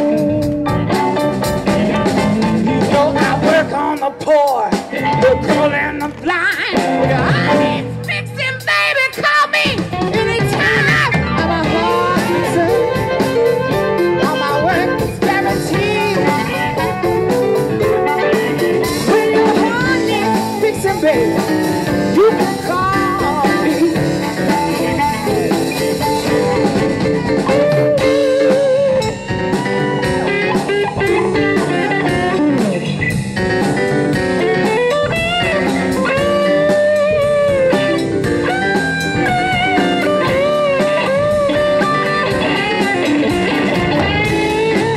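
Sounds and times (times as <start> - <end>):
blues band playing: 0.0 - 44.9
lead guitar bent notes: 0.0 - 44.9.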